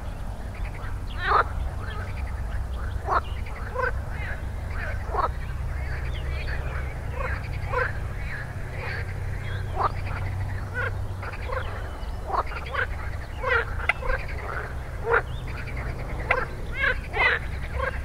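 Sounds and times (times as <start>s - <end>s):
frogs croaking: 0.0s - 18.0s
steady low rumble: 0.0s - 18.0s.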